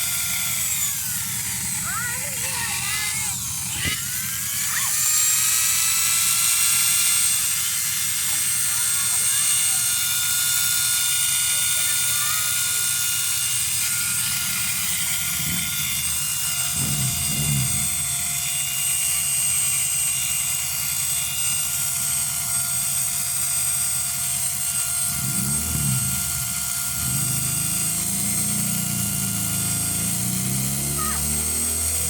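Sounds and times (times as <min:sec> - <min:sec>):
air compressor droning: 0:00.0 - 0:32.0.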